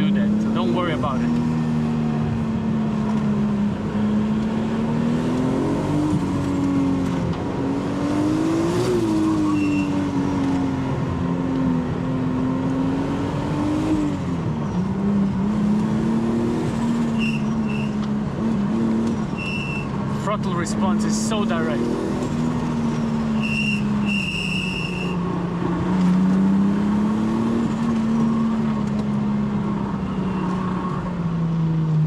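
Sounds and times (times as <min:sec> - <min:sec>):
car engine revving: 0:00.0 - 0:31.1.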